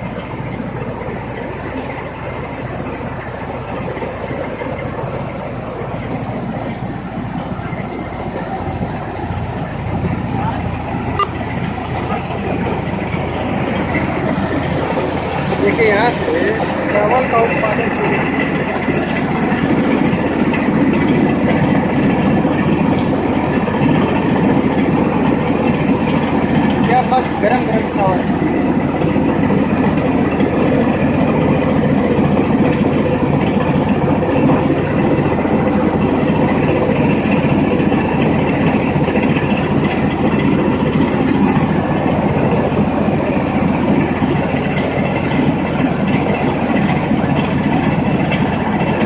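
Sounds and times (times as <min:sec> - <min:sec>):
tractor engine and rice huller: 0:00.0 - 0:49.0.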